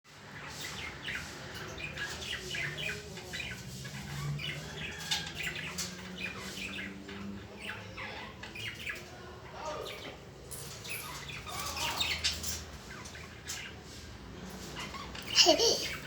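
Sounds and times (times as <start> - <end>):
birds chirping and squawking: 0.1 - 16.0.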